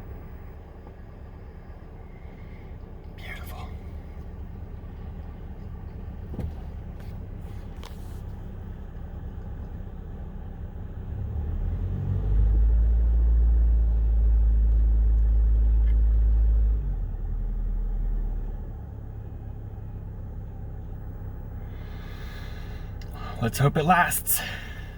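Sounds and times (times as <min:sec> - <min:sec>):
car engine running: 0:00.0 - 0:24.9.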